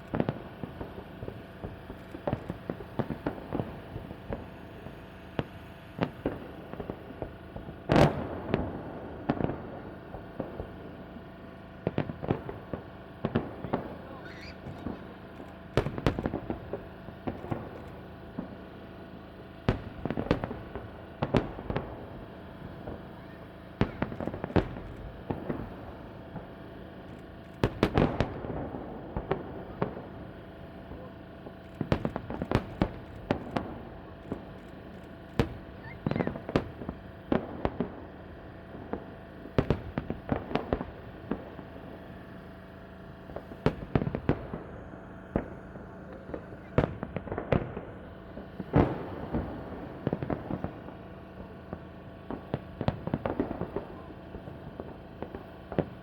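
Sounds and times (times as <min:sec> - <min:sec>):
fireworks bursting in sharp bangs: 0:00.0 - 0:56.0.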